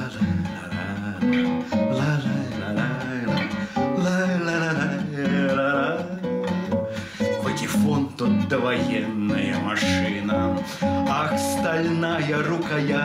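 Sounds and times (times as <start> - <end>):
man singing: 0.0 - 13.0
strummed classical guitar: 0.0 - 13.0.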